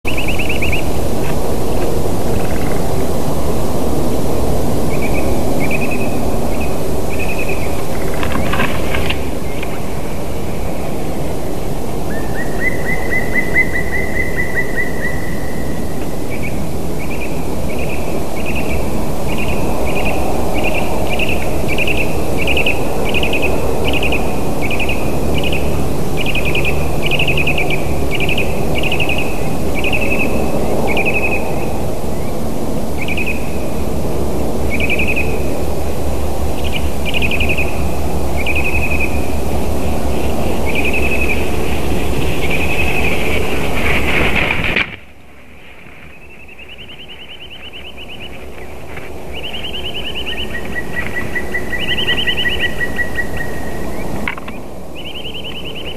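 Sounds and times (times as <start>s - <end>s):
woodpecker calling: 0.0s - 2.9s, 4.9s - 11.3s, 12.0s - 32.4s, 33.0s - 33.6s, 34.7s - 35.4s, 36.5s - 44.9s, 46.0s - 55.9s.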